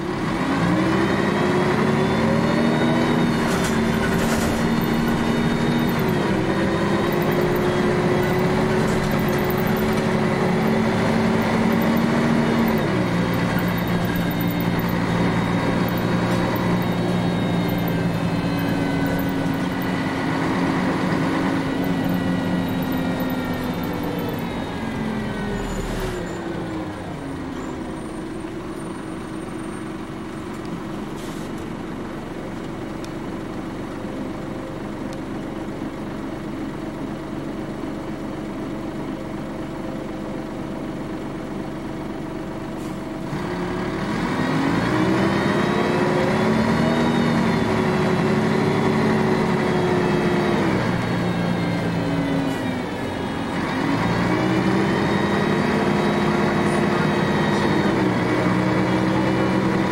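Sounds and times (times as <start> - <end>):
bus diesel engine pulling away: 0.0 - 59.9.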